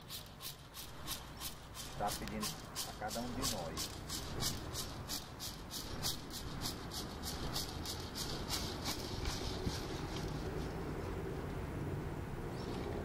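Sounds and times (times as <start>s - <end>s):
hand rattle shaken: 0.0s - 10.6s.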